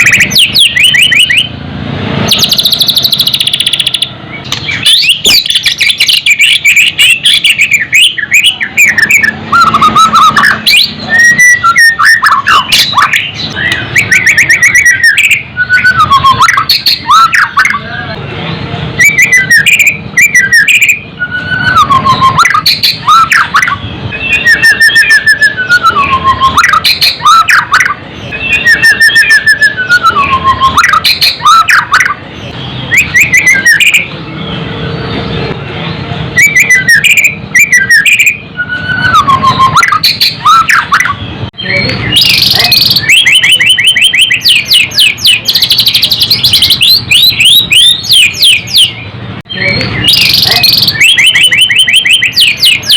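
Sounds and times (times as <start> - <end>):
bird singing whistles and trills: 0.0 - 1.6, 2.2 - 18.2, 19.0 - 35.5, 36.3 - 52.9.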